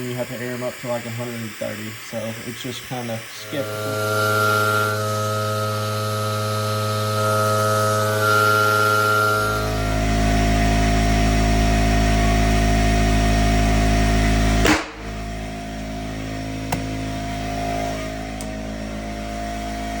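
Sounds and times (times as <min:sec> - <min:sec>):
air compressor running: 0:00.0 - 0:20.0.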